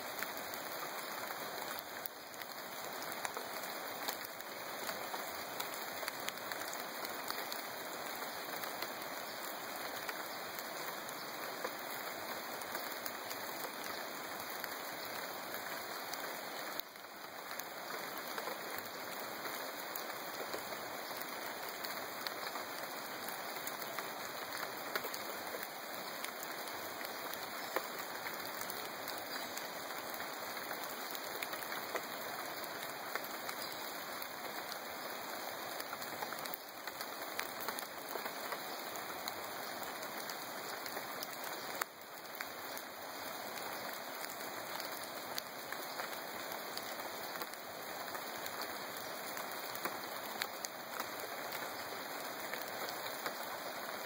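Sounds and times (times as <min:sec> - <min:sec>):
rain on foliage: 0:00.0 - 0:54.0.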